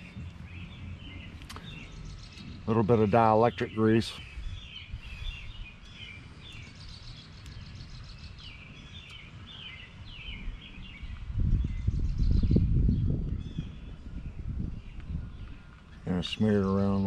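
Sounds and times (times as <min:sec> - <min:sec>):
low rumble: 0:00.0 - 0:16.1
small birds chirping: 0:00.0 - 0:17.0.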